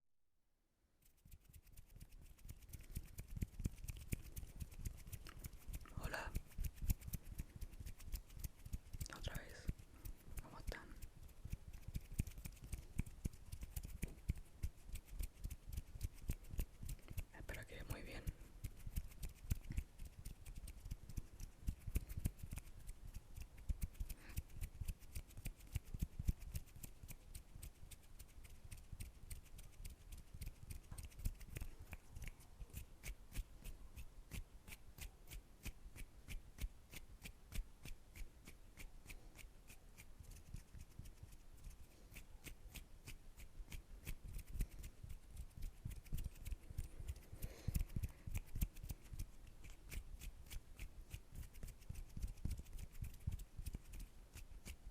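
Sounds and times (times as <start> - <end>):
hands rubbing and tapping: 1.0 - 54.9.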